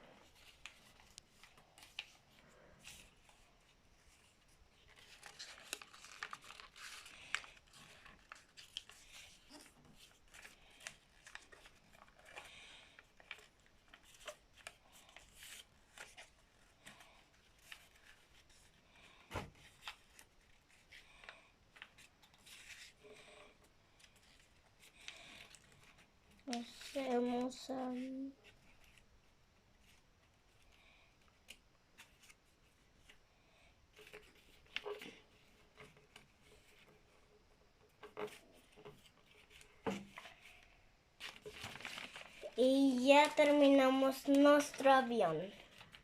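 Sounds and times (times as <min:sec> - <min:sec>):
paper rustling and crinkling: 0:00.0 - 0:29.1, 0:29.7 - 0:33.2, 0:33.9 - 0:46.0.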